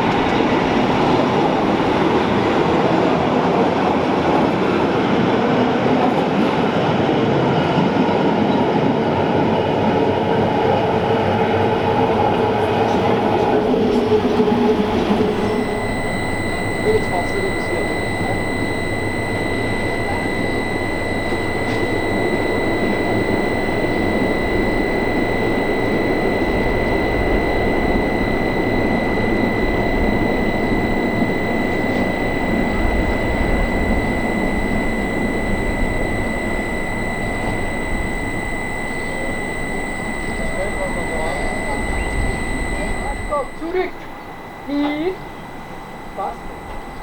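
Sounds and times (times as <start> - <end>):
high-pitched whine: 0.0 - 2.8, 8.6 - 47.0.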